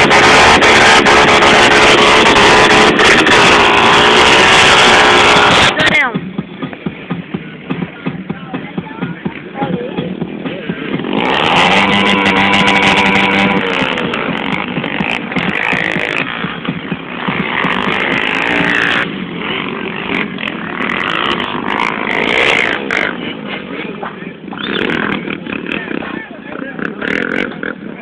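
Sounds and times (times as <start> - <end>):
motocross bike engine revving: 0.0 - 28.0.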